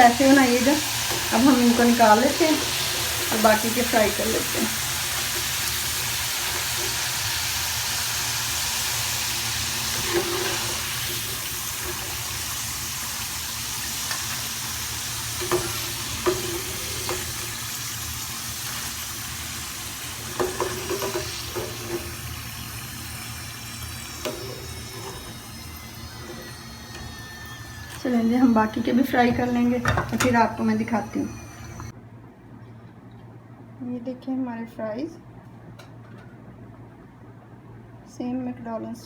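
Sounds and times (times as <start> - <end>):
fries sizzling in hot oil: 0.0 - 31.9.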